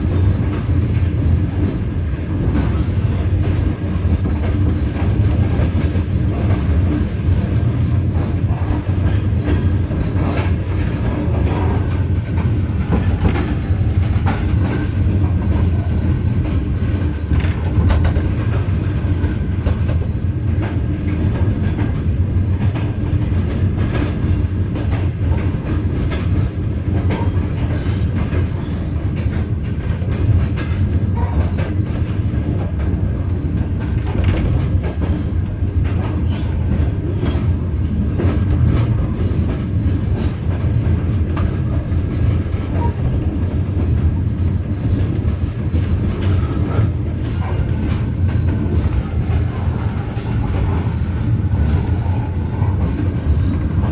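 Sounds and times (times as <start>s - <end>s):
train coaches rumbling: 0.0s - 53.9s
wheels clicking over rail joints: 2.4s - 53.9s.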